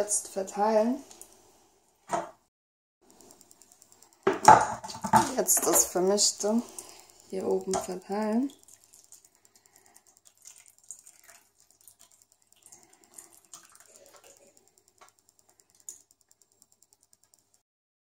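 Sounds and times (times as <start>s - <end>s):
light clicks and taps: 3.1s - 17.6s.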